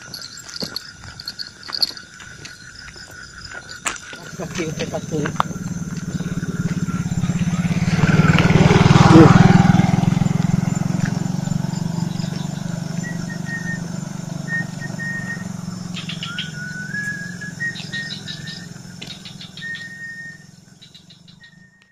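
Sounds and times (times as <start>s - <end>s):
small motorcycle engine running: 0.0s - 2.0s, 4.2s - 21.9s.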